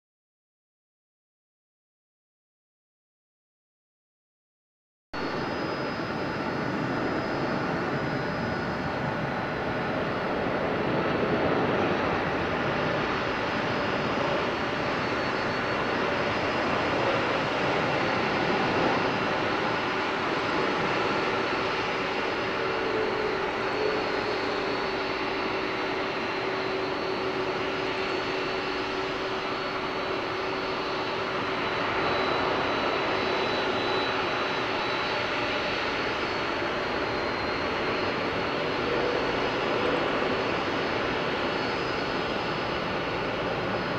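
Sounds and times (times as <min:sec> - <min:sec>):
jet engine noise: 0:05.2 - 0:43.9.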